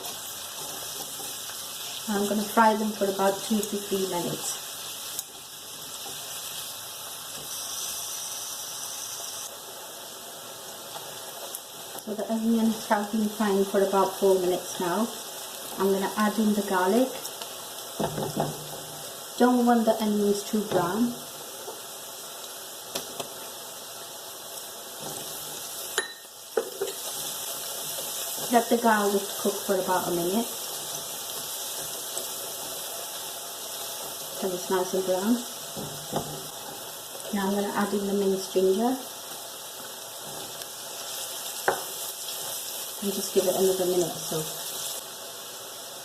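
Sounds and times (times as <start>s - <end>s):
onions sizzling in oil: 0.0s - 46.0s.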